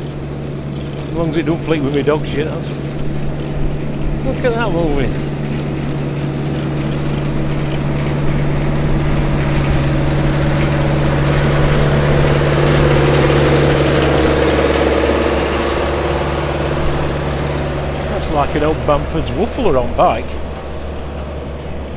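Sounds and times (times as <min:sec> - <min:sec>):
tractor engine running under load: 0:00.0 - 0:21.9.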